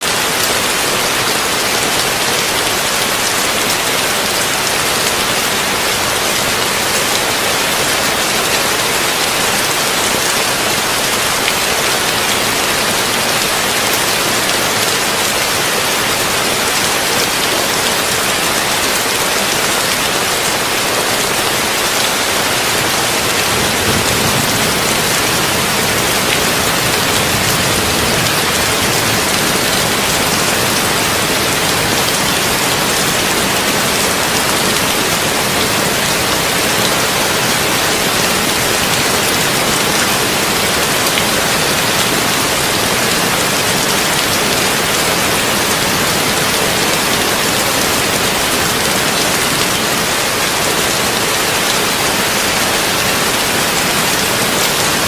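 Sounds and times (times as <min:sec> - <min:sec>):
heavy rain on a tin roof: 0:00.0 - 0:55.0.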